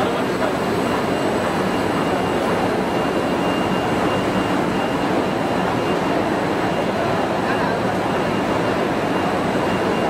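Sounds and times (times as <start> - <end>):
faint high-pitched roller whines: 0.0 - 10.0
steady machine noise: 0.0 - 10.0.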